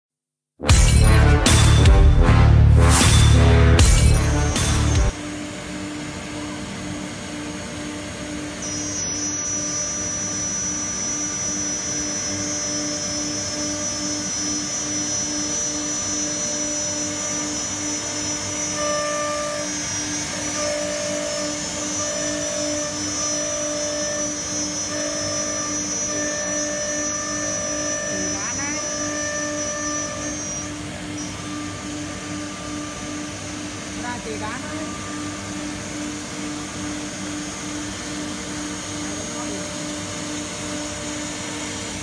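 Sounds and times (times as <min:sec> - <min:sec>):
mechanical drone: 0:00.6 - 0:42.0
on-and-off hum: 0:00.7 - 0:42.0
router spindle whine: 0:03.2 - 0:42.0.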